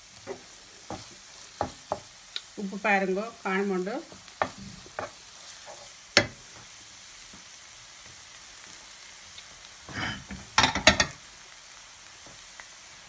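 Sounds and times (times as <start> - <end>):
egg sizzling in pan: 0.0 - 13.0.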